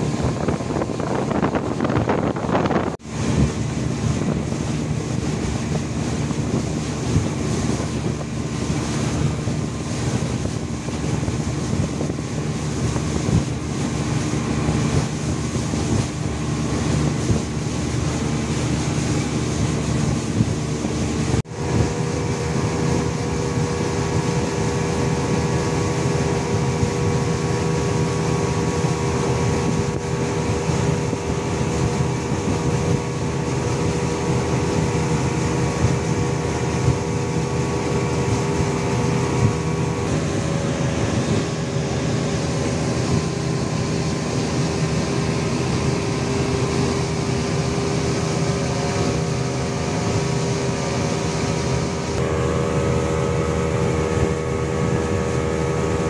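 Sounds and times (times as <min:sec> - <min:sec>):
speedboat engine: 0:00.0 - 0:56.0
water rushing past hull: 0:00.0 - 0:56.0
wind buffeting microphone: 0:00.0 - 0:56.0.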